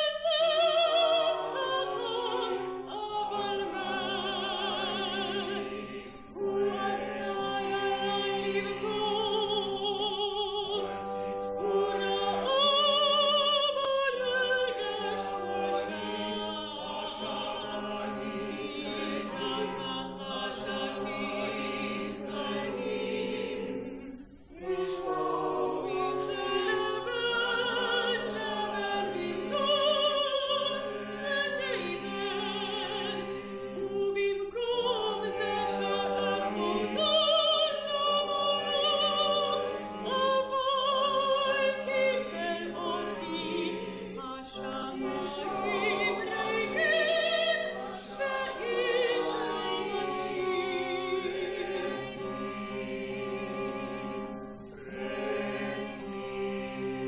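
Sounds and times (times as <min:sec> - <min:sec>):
chamber orchestra: 0:00.0 - 0:57.0
operatic ensemble singing: 0:00.0 - 0:57.0.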